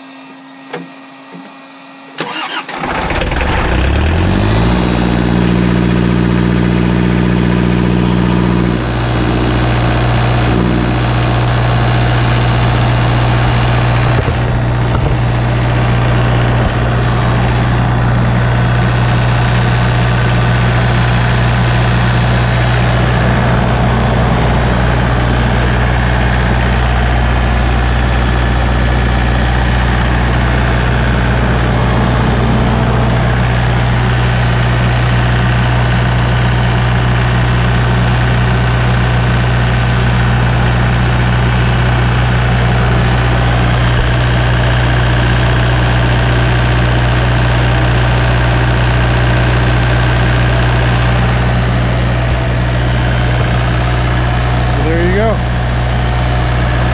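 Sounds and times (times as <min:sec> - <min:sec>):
diesel generator engine starting: 0:00.0 - 0:56.9.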